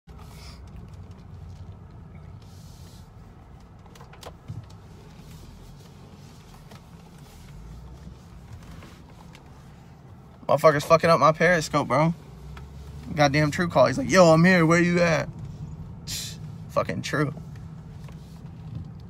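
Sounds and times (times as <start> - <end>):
car interior rumble: 0.1 - 19.0.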